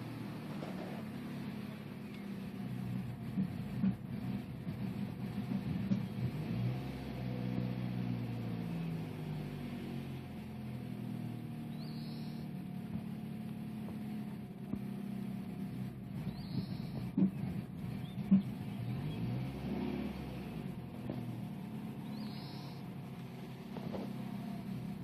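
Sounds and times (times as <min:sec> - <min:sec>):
car engine idling wavering pitch: 0:00.0 - 0:06.4, 0:07.3 - 0:25.0.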